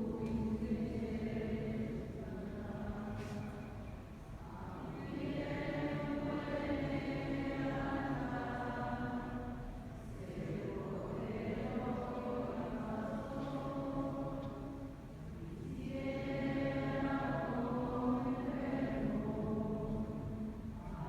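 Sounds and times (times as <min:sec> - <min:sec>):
congregation singing a chant: 0:00.0 - 0:21.0.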